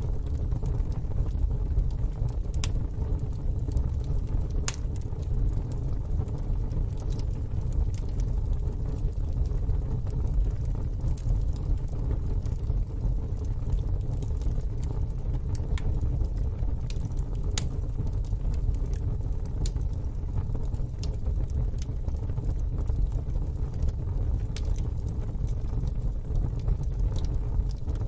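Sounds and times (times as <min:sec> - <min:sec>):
steady low rumble: 0:00.0 - 0:28.0
wood fire crackling: 0:00.0 - 0:28.0.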